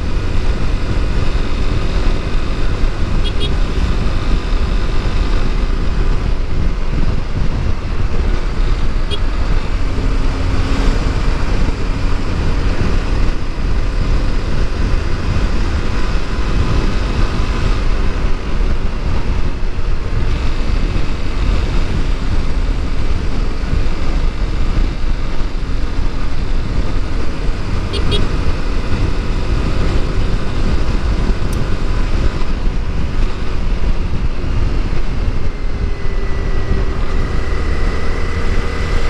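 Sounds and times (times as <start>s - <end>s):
motorcycle engine running: 0.0s - 39.0s
wind noise: 0.0s - 39.0s.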